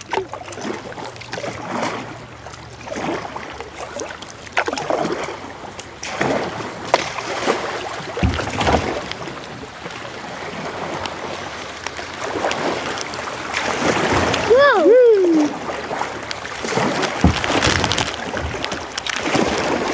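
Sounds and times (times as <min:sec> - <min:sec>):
river water rushing and splashing: 0:00.0 - 0:19.9
small splashes: 0:00.0 - 0:19.9.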